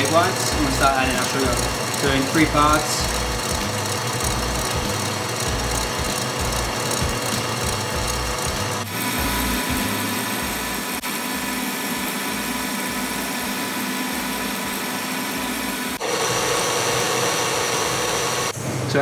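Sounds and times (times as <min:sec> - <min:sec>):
stand mixer whisking: 0:00.0 - 0:18.6.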